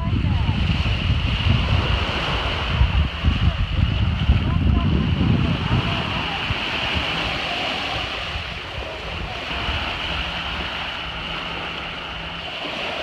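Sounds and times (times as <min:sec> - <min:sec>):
small waves breaking on sand: 0:00.0 - 0:13.0
wind rumble on microphone: 0:00.0 - 0:13.0.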